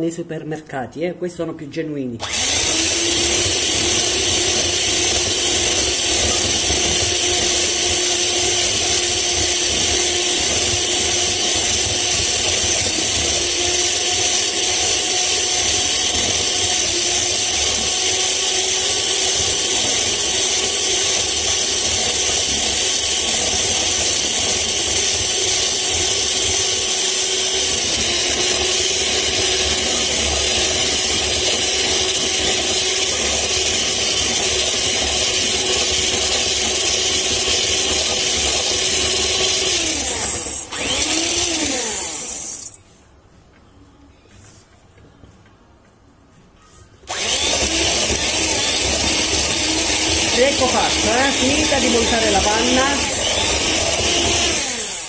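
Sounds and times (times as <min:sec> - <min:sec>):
electric mixer whipping cream: 0:02.2 - 0:42.8, 0:47.1 - 0:55.0.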